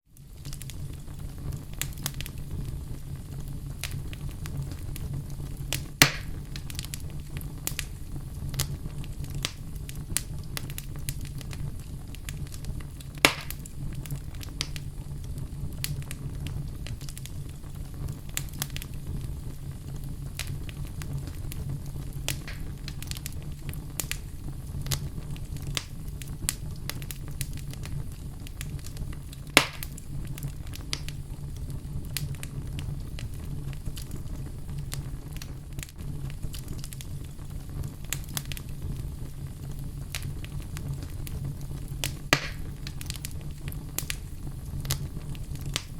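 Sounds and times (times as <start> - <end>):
fire crackling in fireplace: 0.0 - 45.9
loud sharp pops of fire: 0.2 - 45.9.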